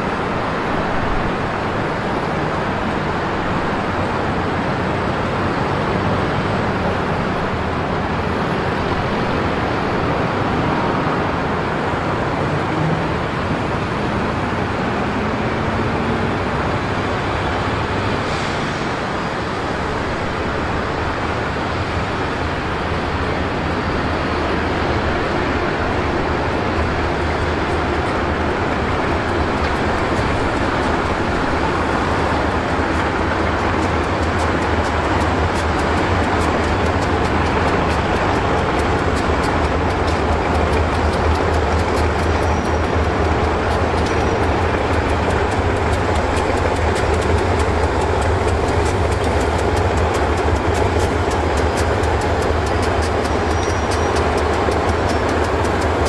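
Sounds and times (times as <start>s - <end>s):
locomotive engine low hum: 0.0s - 56.0s
traffic-like rumble: 0.0s - 56.0s.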